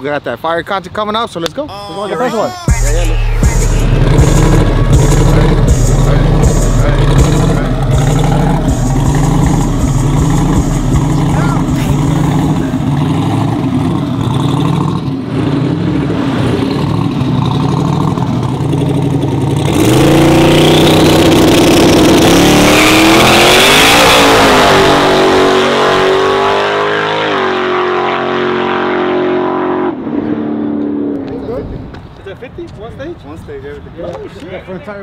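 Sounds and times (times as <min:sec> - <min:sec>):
truck engine at full throttle: 0:02.8 - 0:31.2.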